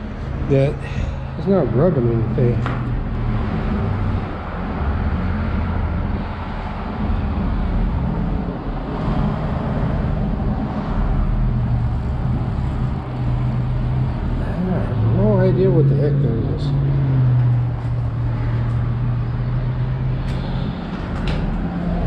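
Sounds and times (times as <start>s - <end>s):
engine hum: 0.0s - 22.0s
traffic rumble: 0.0s - 22.0s.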